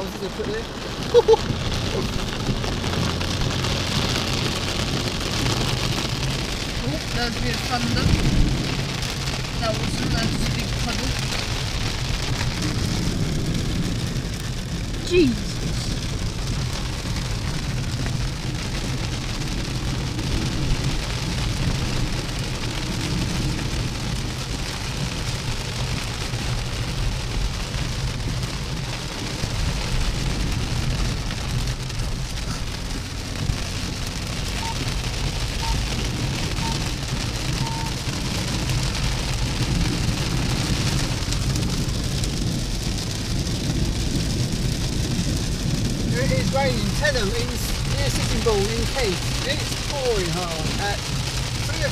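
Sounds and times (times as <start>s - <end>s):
car driving on wet road: 0.0s - 51.9s
heavy rain on car roof: 0.0s - 51.9s.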